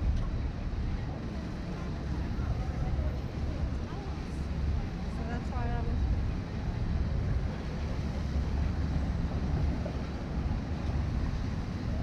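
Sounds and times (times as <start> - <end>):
city street rumble: 0.0 - 12.0.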